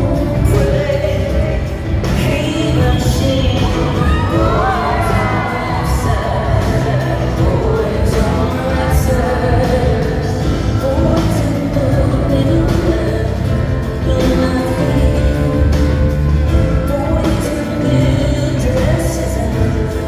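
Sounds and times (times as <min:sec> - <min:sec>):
band with drums and bass: 0:00.0 - 0:20.0
woman singing: 0:00.0 - 0:20.0.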